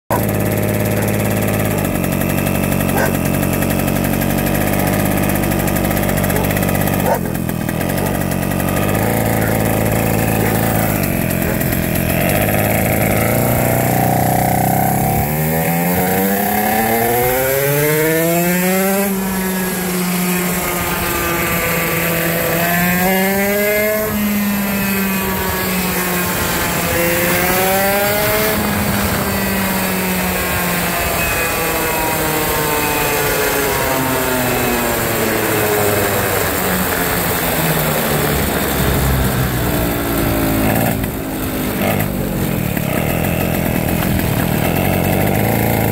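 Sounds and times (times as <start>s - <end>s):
go-kart engine revving: 0.0s - 45.9s.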